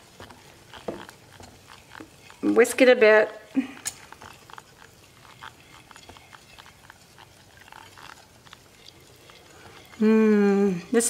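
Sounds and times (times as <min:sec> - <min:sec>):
whisk scraping glass bowl: 0:00.0 - 0:11.0.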